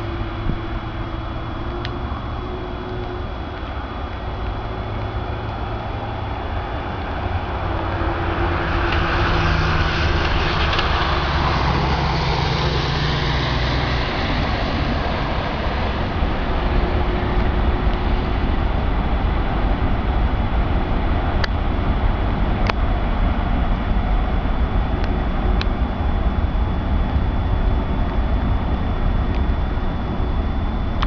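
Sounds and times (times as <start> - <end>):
jet airliner roar at takeoff: 0.0 - 31.0.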